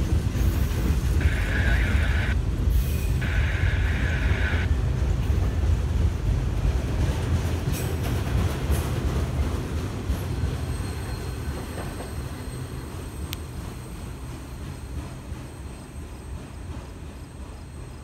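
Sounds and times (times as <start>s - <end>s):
freight cars rumbling on rails: 0.0s - 18.0s.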